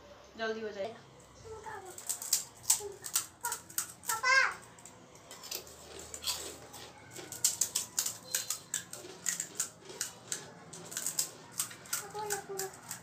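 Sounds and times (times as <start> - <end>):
crisp shells cracking: 1.6 - 13.0.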